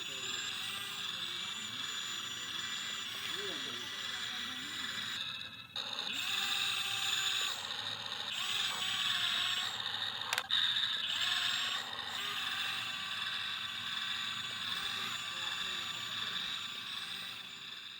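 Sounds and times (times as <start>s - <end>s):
small electric motors whining: 0.0s - 17.9s.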